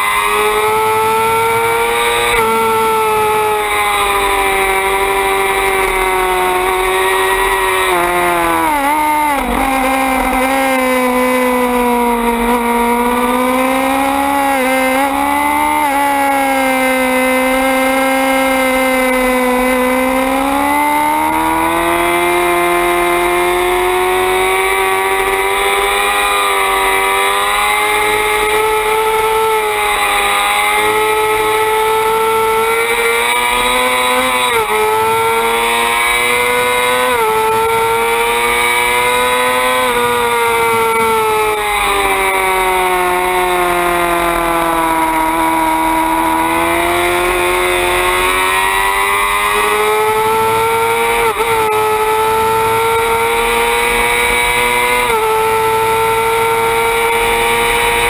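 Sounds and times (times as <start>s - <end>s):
race motorcycle engine revving: 0.0s - 58.0s.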